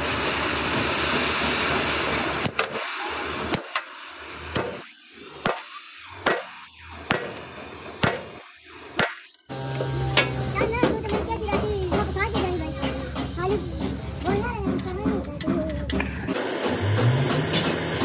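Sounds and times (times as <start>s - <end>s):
loud machine noise: 0.0s - 18.0s.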